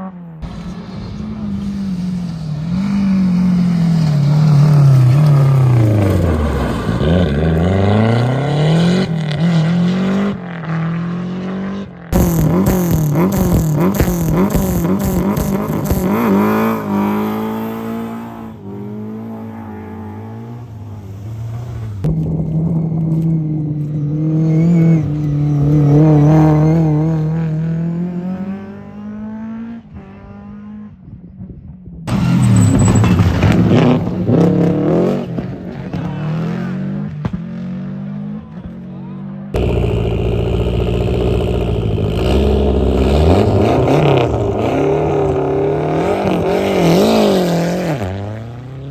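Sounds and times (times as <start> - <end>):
rally cars passing at speed: 0.0 - 48.9.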